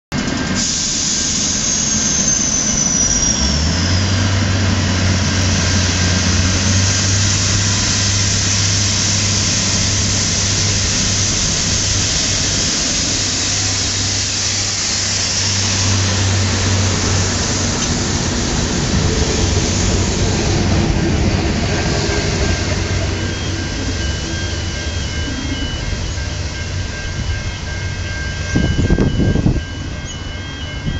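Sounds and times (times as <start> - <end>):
diesel engine low drone: 0.1 - 30.9
wheels rushing on rails: 0.1 - 30.9.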